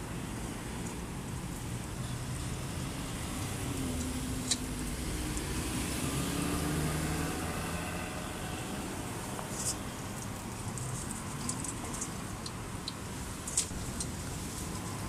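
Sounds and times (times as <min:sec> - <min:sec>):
passing vehicle engine hum: 0:01.8 - 0:15.0.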